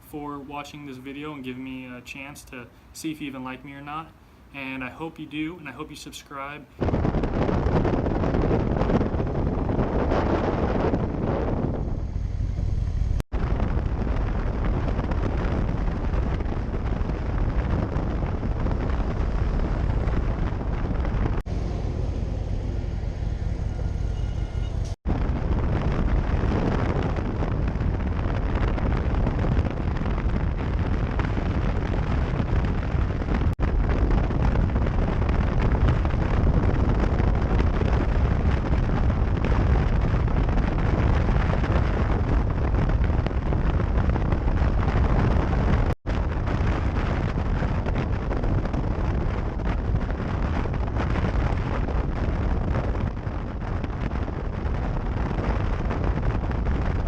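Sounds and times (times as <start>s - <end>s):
wind buffeting microphone: 6.7s - 57.0s
vehicle rumble: 6.8s - 57.0s.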